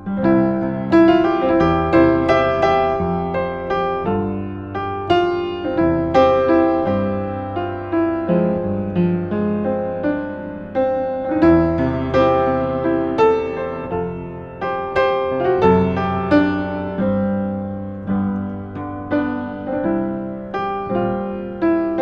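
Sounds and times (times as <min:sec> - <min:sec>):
upright piano played gently: 0:00.0 - 0:22.0.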